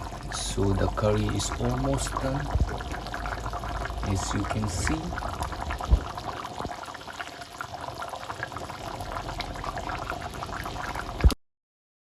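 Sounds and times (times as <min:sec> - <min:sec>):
curry bubbling in a pot: 0:00.0 - 0:11.4.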